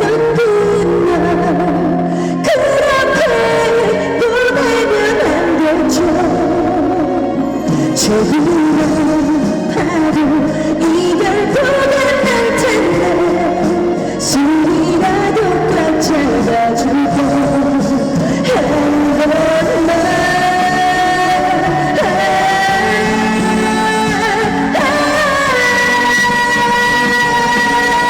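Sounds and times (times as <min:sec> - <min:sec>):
music over sound system: 0:00.0 - 0:28.0.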